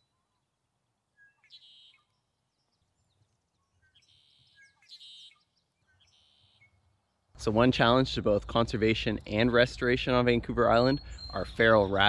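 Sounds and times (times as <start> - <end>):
blackbirds singing faintly: 0.0 - 12.0.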